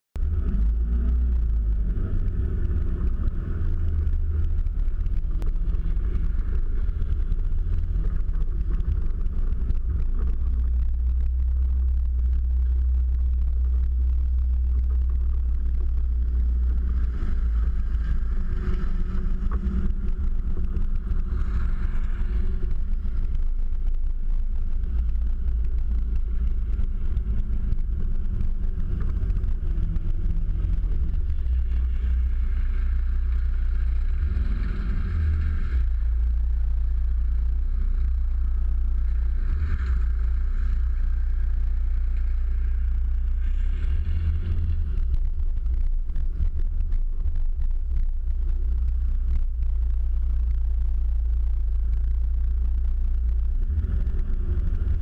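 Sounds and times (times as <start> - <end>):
engine and body vibration rumble: 0.0 - 55.0.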